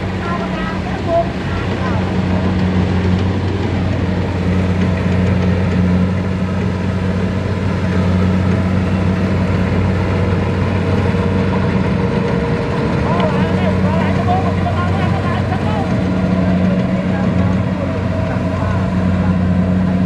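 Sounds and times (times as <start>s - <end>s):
combine harvester diesel engine: 0.0s - 20.0s.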